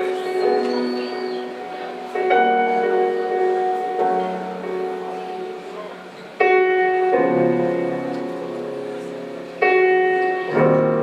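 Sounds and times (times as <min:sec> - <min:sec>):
keyboard chords ringing: 0:00.0 - 0:11.0.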